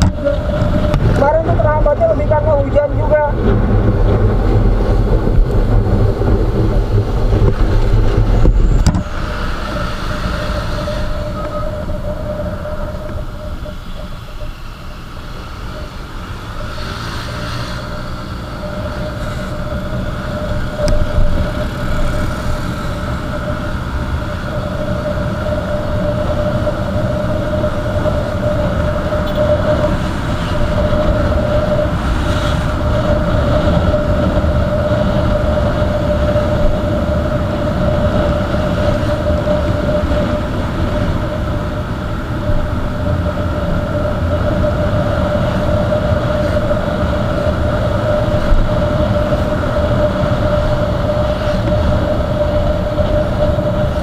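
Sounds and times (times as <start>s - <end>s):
wind buffeting microphone: 0.0s - 16.6s, 17.9s - 54.0s
motorcycle engine: 0.0s - 54.0s
road and wind noise: 0.0s - 54.0s.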